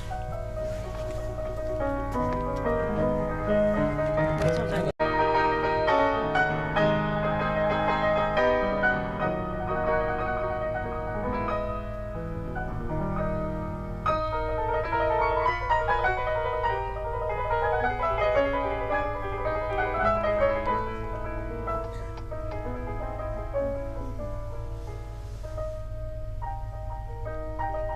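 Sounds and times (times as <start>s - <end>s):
piano music: 0.0s - 27.9s.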